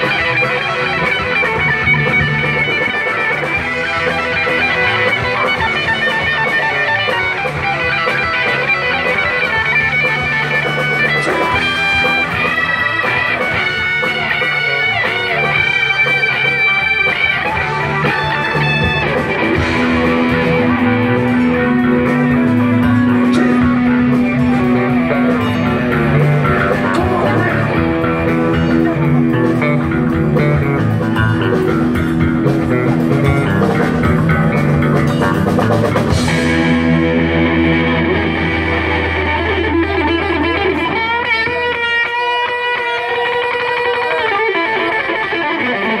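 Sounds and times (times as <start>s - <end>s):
drums: 0.0s - 46.0s
electric guitars: 0.0s - 46.0s.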